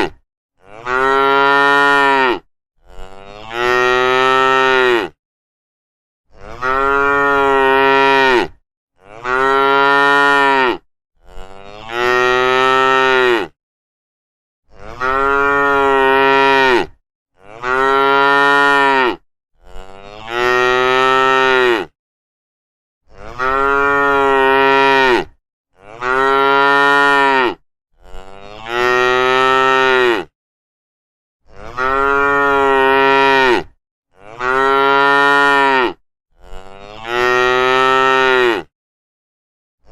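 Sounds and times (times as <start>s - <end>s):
cattle mooing: 0.0s - 5.2s, 6.4s - 13.5s, 14.8s - 21.9s, 23.2s - 30.3s, 31.5s - 38.7s.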